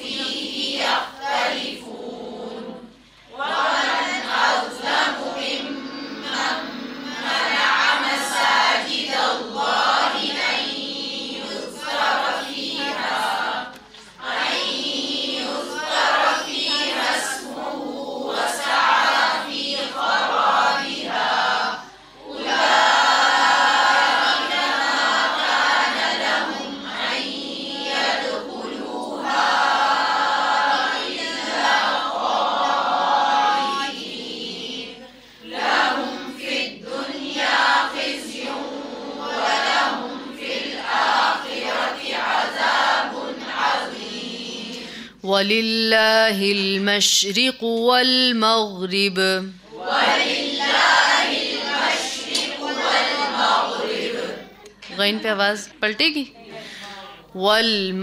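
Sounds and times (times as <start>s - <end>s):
group reciting in unison: 0.0s - 55.4s.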